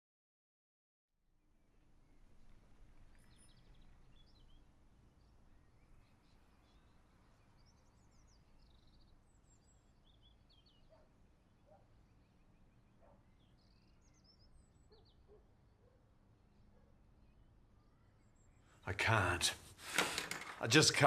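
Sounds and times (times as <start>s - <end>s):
birds chirping: 2.0s - 21.0s.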